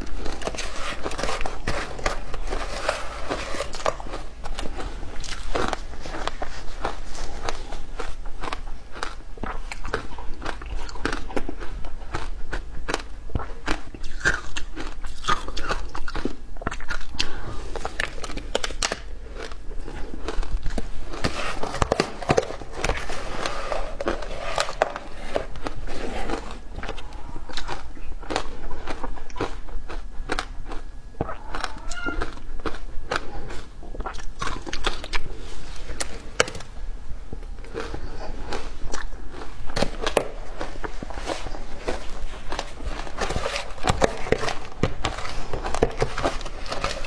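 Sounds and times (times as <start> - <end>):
crunching and chewing ice: 0.0 - 47.0.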